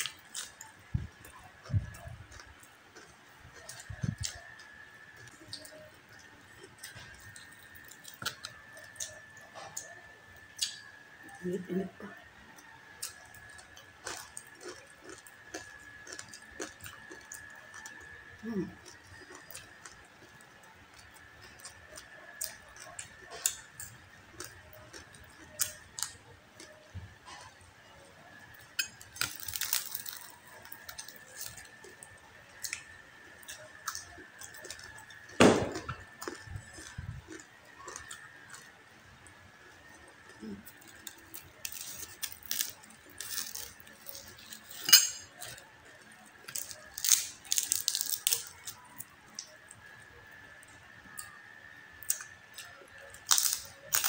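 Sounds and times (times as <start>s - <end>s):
chewing crispy pork crackling: 0.0s - 54.0s.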